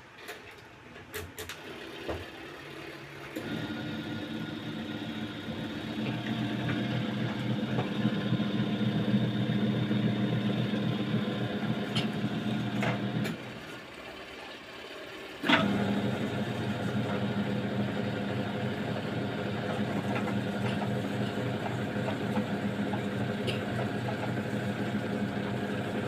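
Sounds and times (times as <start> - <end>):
washing machine motor humming: 1.5 - 26.0.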